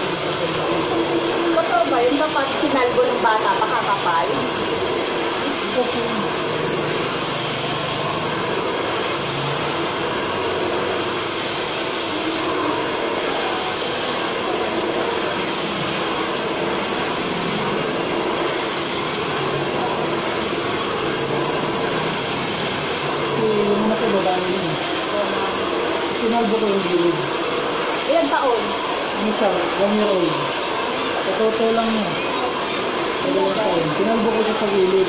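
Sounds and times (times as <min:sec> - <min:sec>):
hair dryer blowing: 0:00.0 - 0:35.0.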